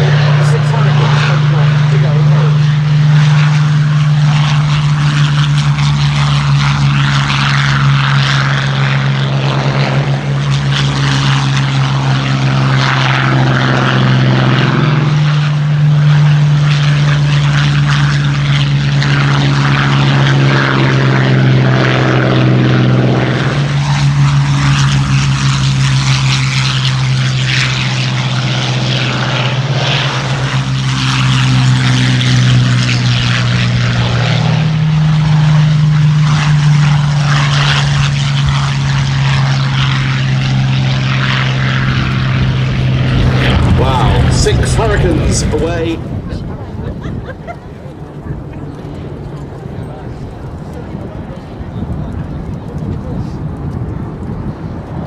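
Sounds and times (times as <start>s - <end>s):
propeller engines droning: 0.0s - 55.0s.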